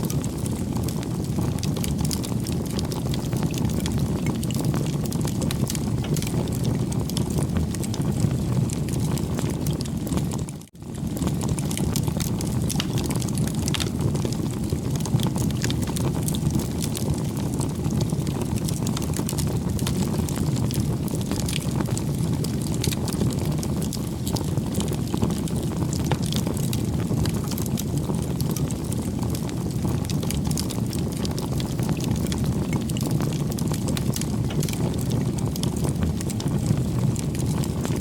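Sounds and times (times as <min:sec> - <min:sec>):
bonfire flame rushing: 0:00.0 - 0:38.0
burning wood crackling: 0:00.0 - 0:38.0.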